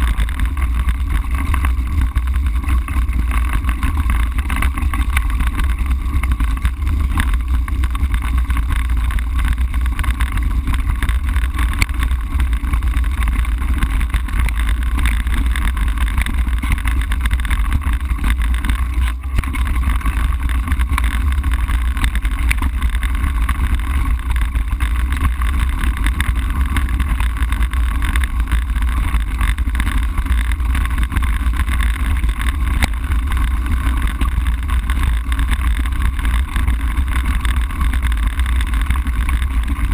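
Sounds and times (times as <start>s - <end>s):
bicycle rolling over gravel: 0.0s - 39.9s.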